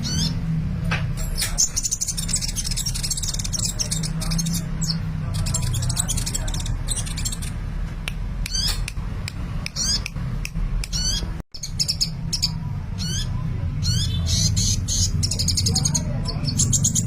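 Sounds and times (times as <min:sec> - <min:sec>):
sunbird chirping and trilling: 0:00.0 - 0:00.6, 0:01.2 - 0:07.7, 0:08.4 - 0:09.0, 0:09.7 - 0:10.2, 0:10.8 - 0:17.0.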